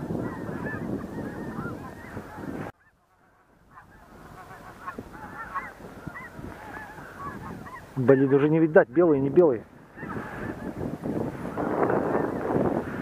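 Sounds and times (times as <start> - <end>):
flock of geese honking: 0.0 - 13.0.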